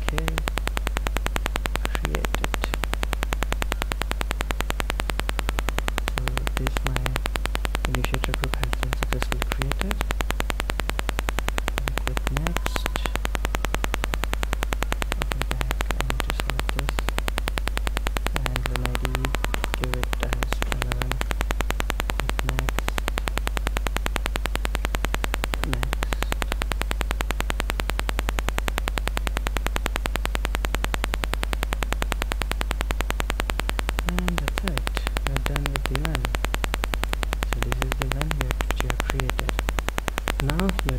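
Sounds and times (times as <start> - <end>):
electrical hum and buzz: 0.0 - 40.9
faint low sounds: 0.0 - 40.9.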